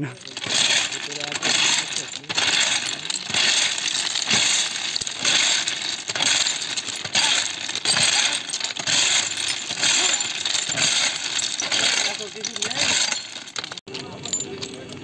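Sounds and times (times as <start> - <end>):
tools striking stone ballast: 0.2 - 14.8.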